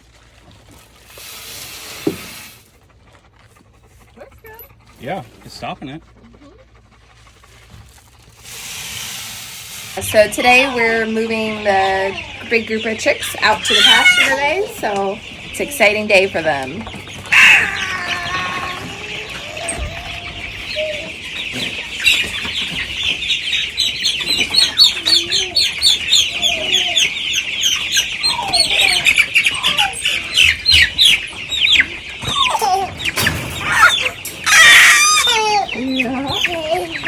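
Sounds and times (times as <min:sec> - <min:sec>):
chicks peeping: 0:00.4 - 0:37.0.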